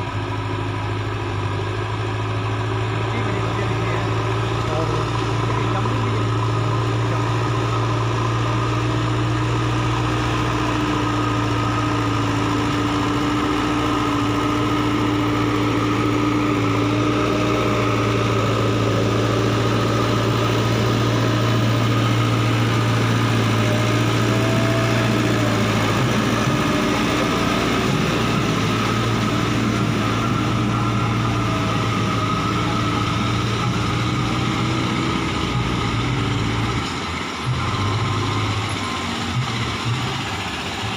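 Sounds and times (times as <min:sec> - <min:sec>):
diesel engine running: 0:00.0 - 0:40.9
loader bucket pushing soil: 0:00.0 - 0:40.9.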